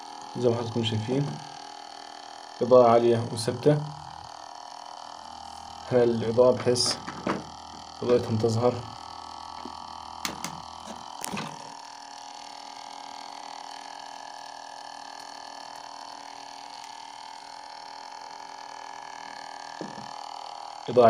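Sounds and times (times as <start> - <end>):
electrical motor hum: 0.0 - 21.0.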